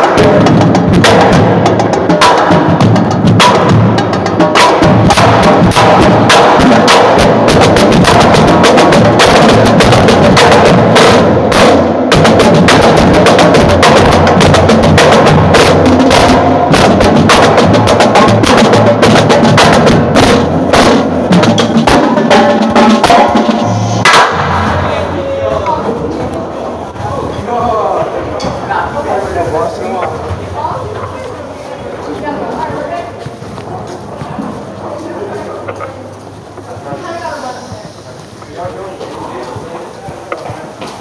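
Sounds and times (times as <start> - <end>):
drumline playing fast: 0.0 - 36.1.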